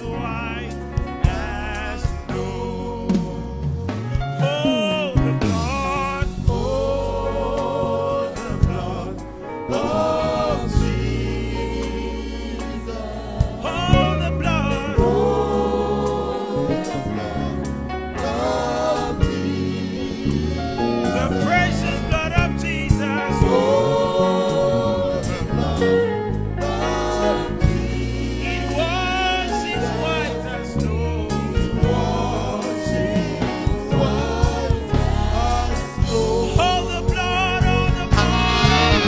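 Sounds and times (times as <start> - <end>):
choir singing a hymn: 0.0 - 39.0
low bass accompaniment with beat: 0.0 - 39.0.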